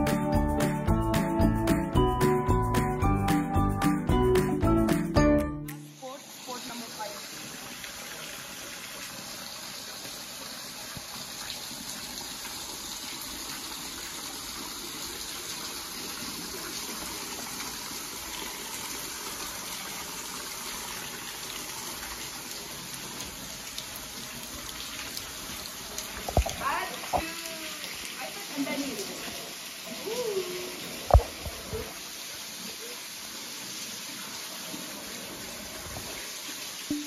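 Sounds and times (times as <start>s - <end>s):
flowing water rushing: 5.8s - 37.0s.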